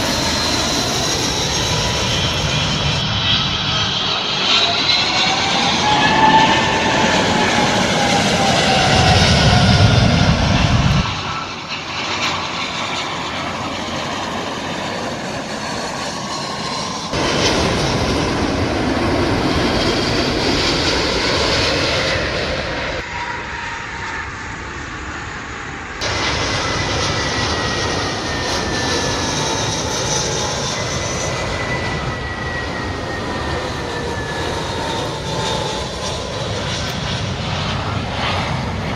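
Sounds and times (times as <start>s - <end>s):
steady jet rush: 0.0s - 23.7s, 25.6s - 38.9s
jet engines whining: 0.0s - 38.9s.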